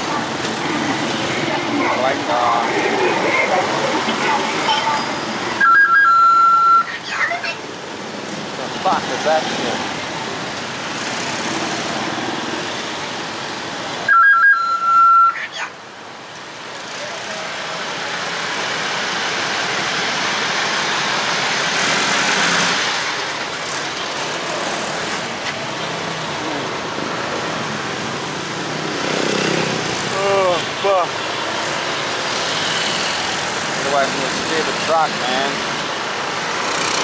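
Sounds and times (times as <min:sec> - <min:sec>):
traffic noise: 0:00.0 - 0:37.0.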